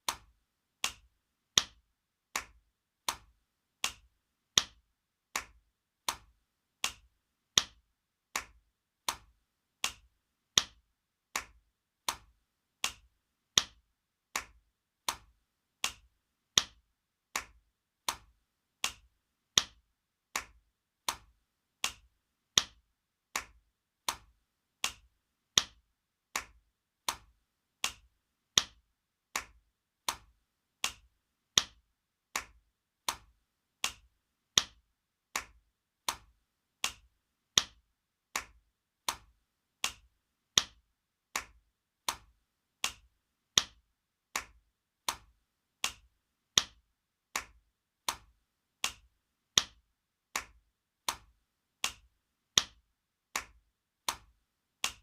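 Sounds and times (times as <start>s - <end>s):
hand slapping skin: 0.0s - 55.0s.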